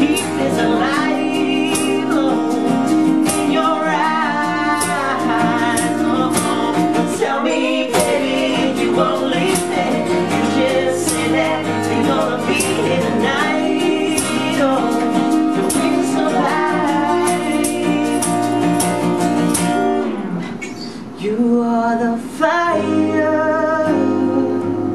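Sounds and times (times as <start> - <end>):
person singing: 0.0 - 19.0, 21.0 - 24.9
percussion hits: 0.0 - 21.1
live pop-rock band playing: 0.0 - 21.2.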